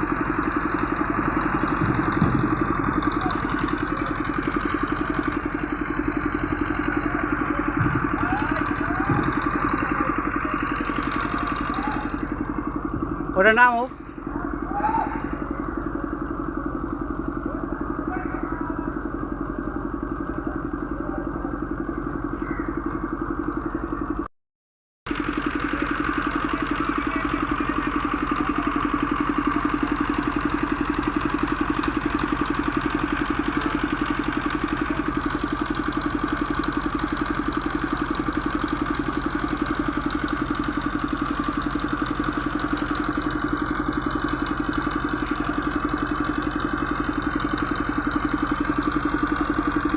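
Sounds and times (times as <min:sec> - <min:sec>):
large engine idling: 0:00.0 - 0:24.3, 0:25.1 - 0:49.9.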